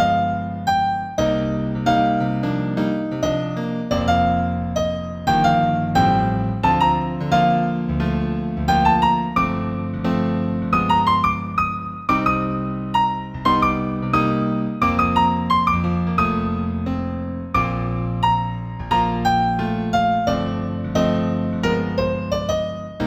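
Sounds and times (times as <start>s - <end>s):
slow solo piano piece: 0.0s - 23.0s.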